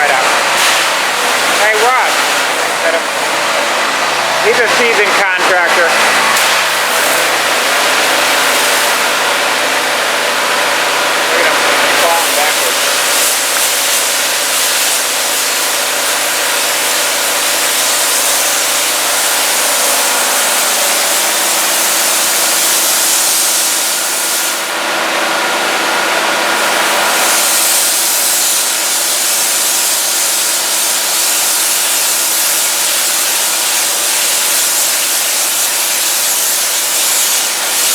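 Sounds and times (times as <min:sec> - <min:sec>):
pressure washer spray hiss: 0:00.0 - 0:03.7, 0:06.3 - 0:24.8, 0:26.6 - 0:37.9
pressure washer engine running: 0:00.0 - 0:37.9.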